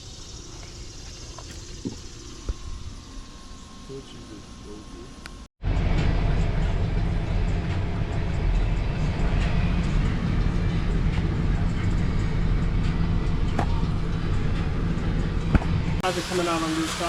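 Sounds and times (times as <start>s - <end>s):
hvac equipment humming: 0.0s - 17.0s.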